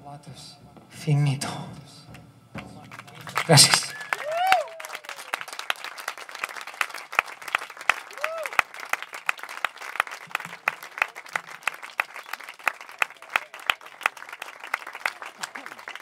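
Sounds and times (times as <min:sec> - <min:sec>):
audience applauding: 0:02.8 - 0:16.0.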